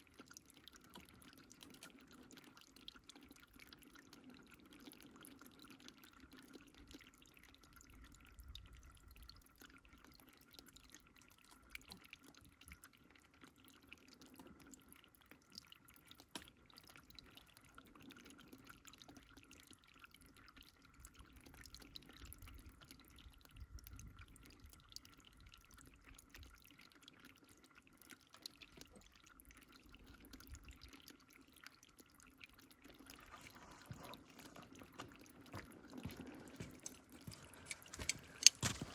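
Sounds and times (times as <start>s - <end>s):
water trickling and dripping: 0.0s - 38.9s.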